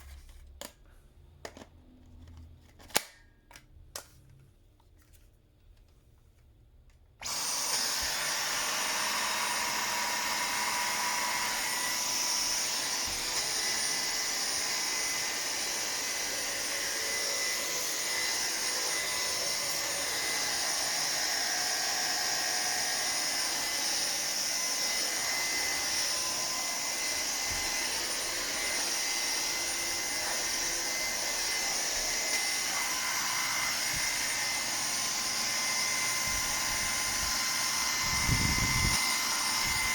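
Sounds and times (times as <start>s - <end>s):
cordless vacuum running: 7.2s - 39.9s.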